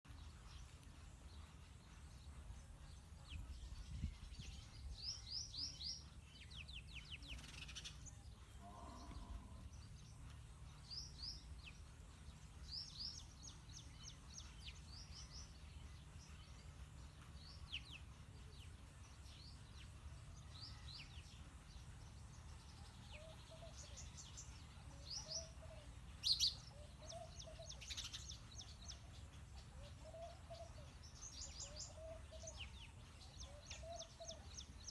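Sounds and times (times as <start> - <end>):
sparrows chirping: 0.1 - 34.9.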